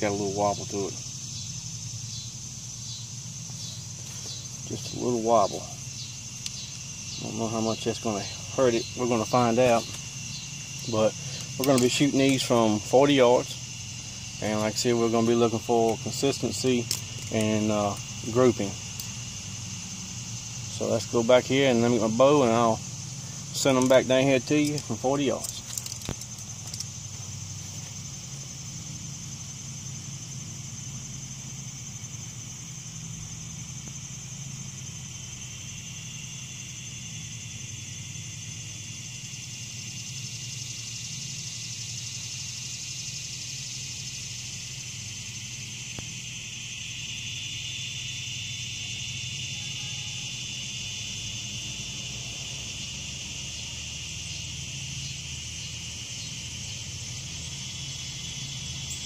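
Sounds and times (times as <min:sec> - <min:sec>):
insects calling: 0:00.0 - 0:59.0.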